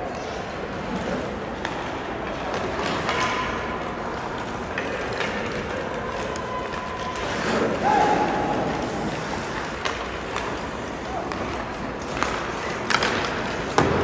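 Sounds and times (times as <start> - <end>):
steady rink noise: 0.0 - 14.0
sticks and puck clicking on ice: 0.0 - 14.0.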